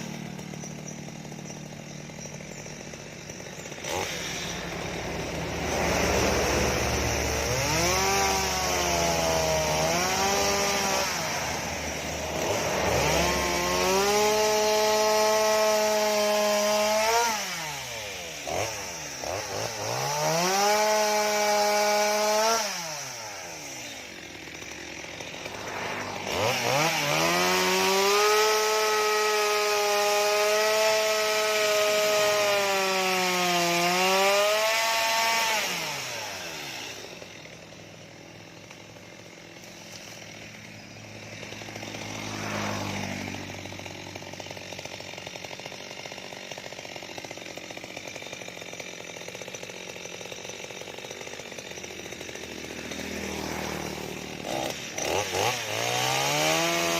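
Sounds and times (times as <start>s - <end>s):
chainsaw revving and idling: 0.0s - 56.9s.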